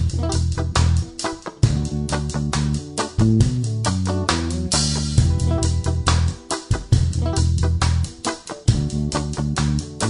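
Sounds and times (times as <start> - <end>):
guitar music with bass and drums: 0.0 - 10.0.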